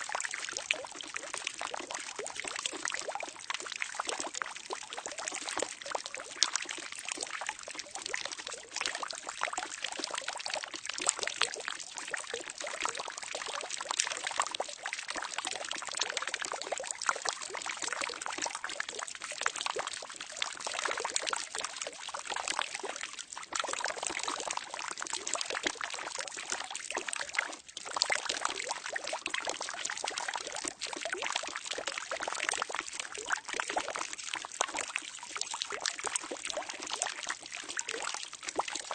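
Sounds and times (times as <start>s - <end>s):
water pouring into a barrel: 0.0s - 38.9s.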